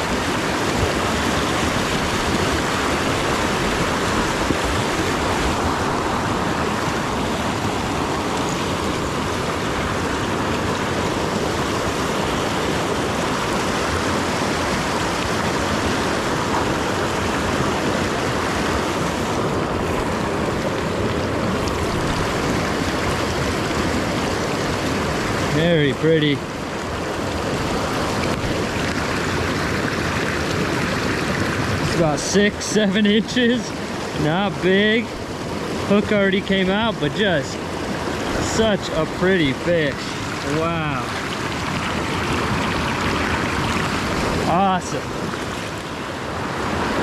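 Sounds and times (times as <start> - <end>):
creek water rushing: 0.0 - 47.0.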